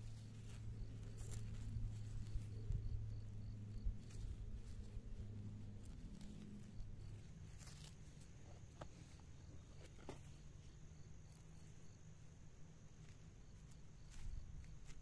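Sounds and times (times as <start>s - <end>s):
hands pulling weeds from soil: 0.0s - 15.0s
high insect-like hum: 0.0s - 15.0s.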